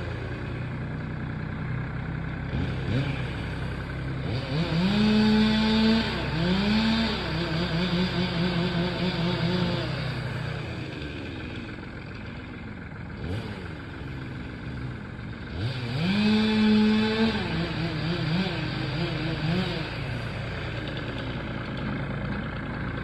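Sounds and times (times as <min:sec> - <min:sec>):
chainsaw cutting and idling: 0:00.0 - 0:23.0.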